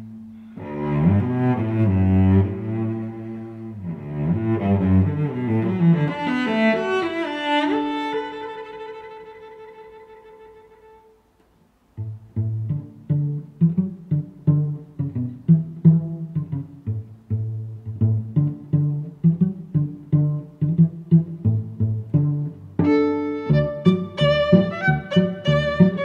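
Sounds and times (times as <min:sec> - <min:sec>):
bowed strings melody: 0:00.0 - 0:11.2, 0:11.9 - 0:26.0.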